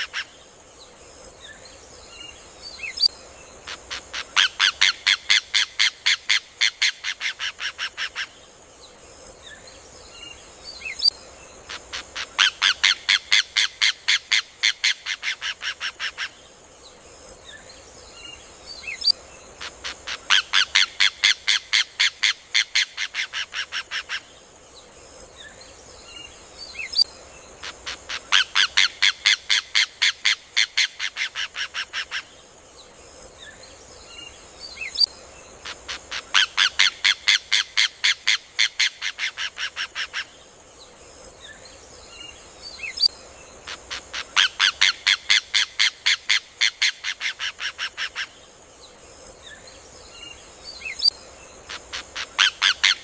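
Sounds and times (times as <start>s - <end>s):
faint high hiss: 0.0s - 53.0s.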